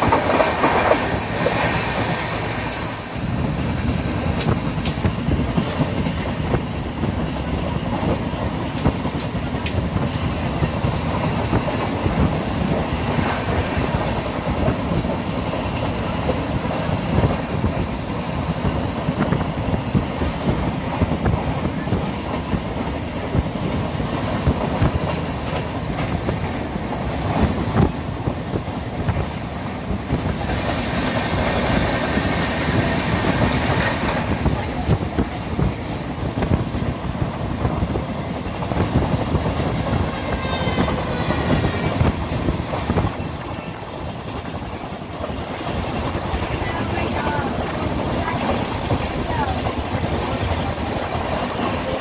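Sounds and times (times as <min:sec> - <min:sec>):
rail-joint clicks: 0:00.0 - 0:52.0
train wheels rumbling on track: 0:00.0 - 0:52.0.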